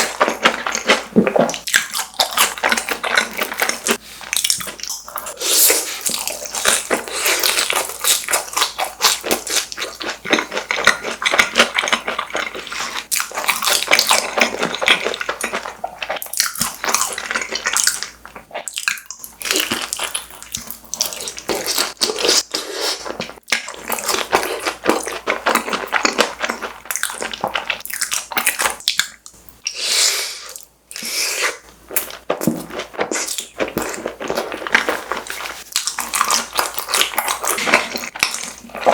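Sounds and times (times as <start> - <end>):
biting and chewing food: 0.0 - 29.4, 31.0 - 38.9.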